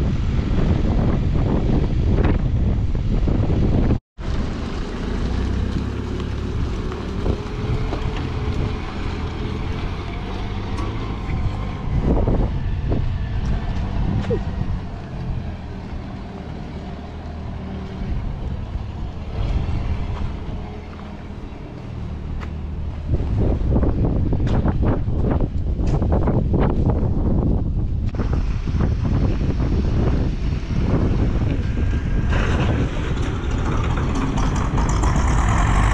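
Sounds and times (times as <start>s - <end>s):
wind on microphone: 0.0s - 35.9s.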